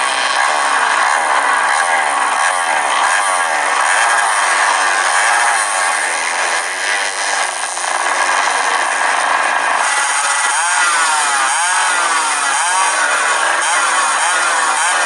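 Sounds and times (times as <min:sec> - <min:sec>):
engine revving: 0:00.0 - 0:15.0
motocross bike engines: 0:00.0 - 0:15.0.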